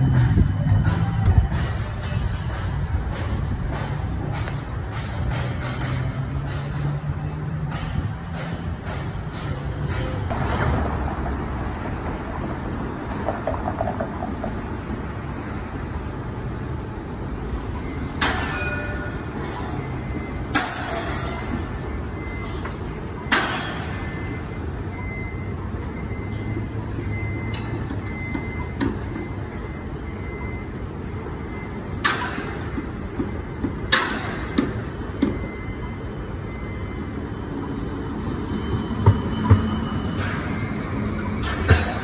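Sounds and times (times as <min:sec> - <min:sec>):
low rumble of passing vehicles: 0:00.0 - 0:42.0.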